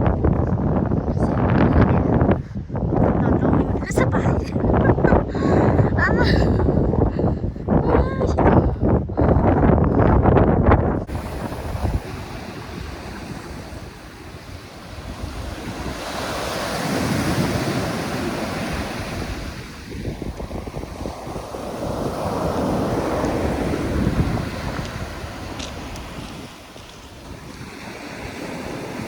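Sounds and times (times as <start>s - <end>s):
heavy surf breaking: 0.0s - 29.0s
wind buffeting microphone: 0.0s - 29.0s.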